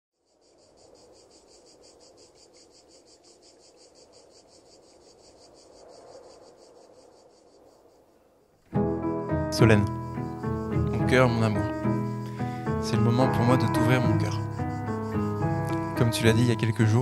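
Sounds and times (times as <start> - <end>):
insects chirping: 0.2 - 17.0.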